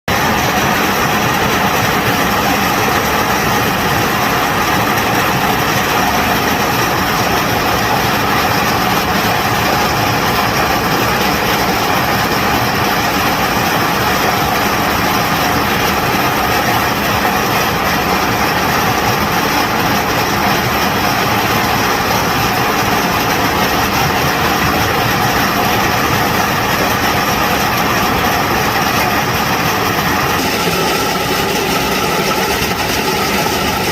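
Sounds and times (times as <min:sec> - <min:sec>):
heavy machine engine running: 0:00.1 - 0:33.9.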